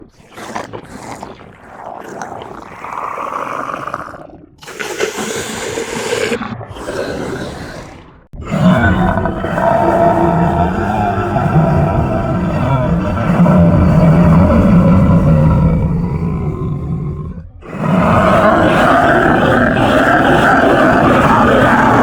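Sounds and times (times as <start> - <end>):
growling creature sounds: 0.0 - 22.0.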